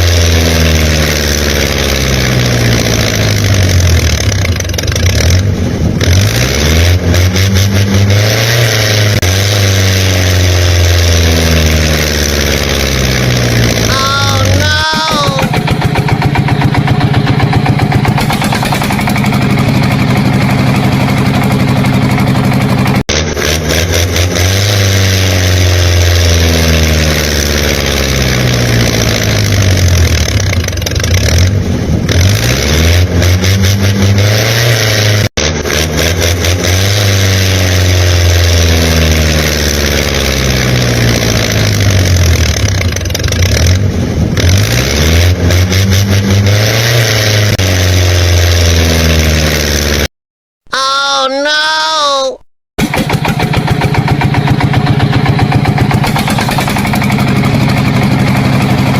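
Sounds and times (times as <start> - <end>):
engine revving: 0.0 - 50.1, 52.8 - 58.9.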